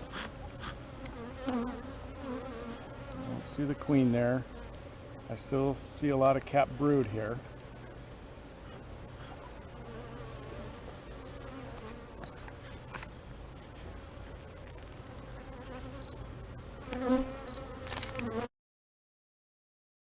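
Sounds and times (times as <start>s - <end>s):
bees buzzing: 0.0s - 18.5s.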